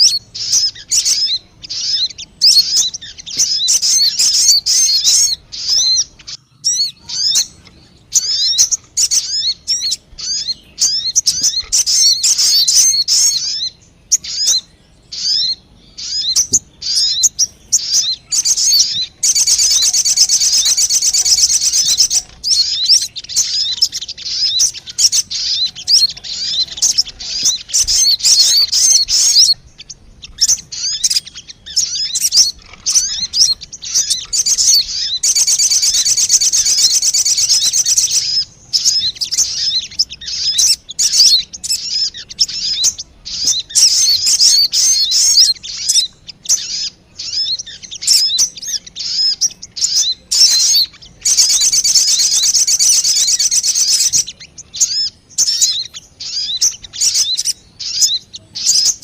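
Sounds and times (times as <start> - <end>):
bird trilling: 0.0 - 59.0
high bird chirps and twitters: 0.0 - 59.0.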